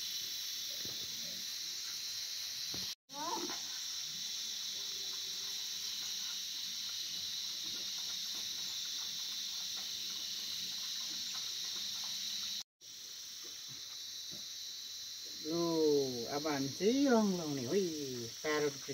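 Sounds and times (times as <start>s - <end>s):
insect chirring: 0.0s - 18.9s.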